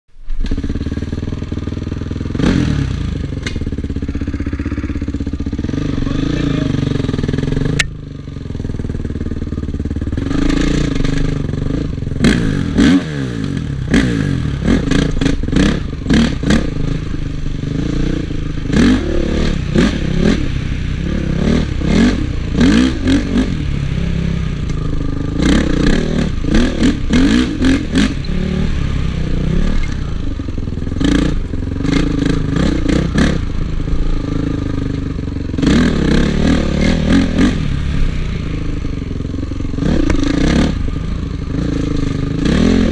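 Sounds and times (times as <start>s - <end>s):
motocross bike engine revving: 0.3s - 42.9s.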